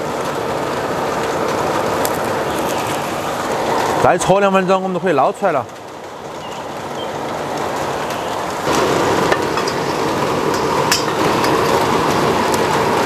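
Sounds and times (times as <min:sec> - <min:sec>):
water boiling in a wok: 0:00.0 - 0:13.0.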